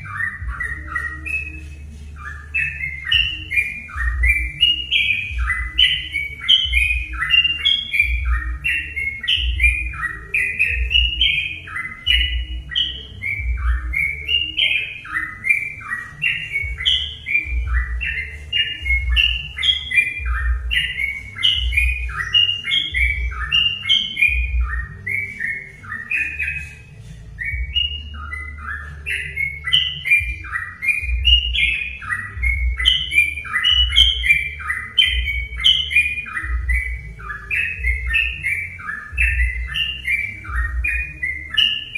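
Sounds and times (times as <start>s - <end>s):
bird song chirping phrases: 0.0s - 41.9s.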